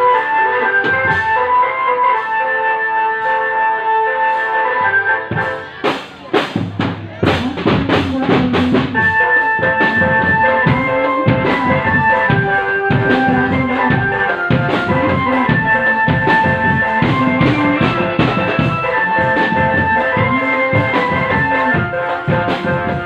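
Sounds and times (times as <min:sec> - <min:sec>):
drums beating a rhythm: 0:00.0 - 0:03.5, 0:04.3 - 0:23.0
melody of held notes: 0:00.0 - 0:06.4, 0:07.6 - 0:23.0.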